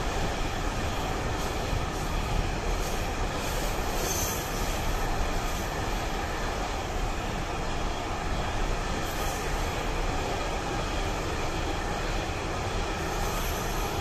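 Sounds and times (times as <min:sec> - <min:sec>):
freight train wheels on rails: 0:00.0 - 0:14.0.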